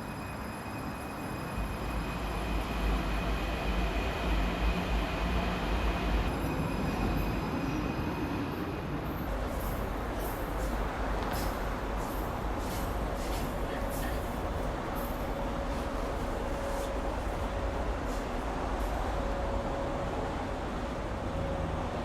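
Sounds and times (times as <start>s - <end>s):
high-pitched train whine: 0.0s - 22.0s
train low rumble: 0.0s - 22.0s.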